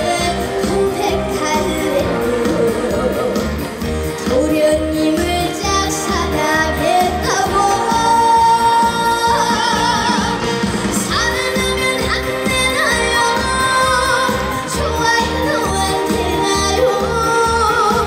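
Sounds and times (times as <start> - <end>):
backing track with steady beat: 0.0 - 18.0
woman singing: 0.0 - 18.0.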